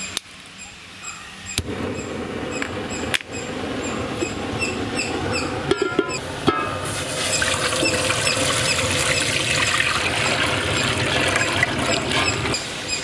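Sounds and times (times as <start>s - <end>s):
gas flame rushing: 1.6s - 13.0s.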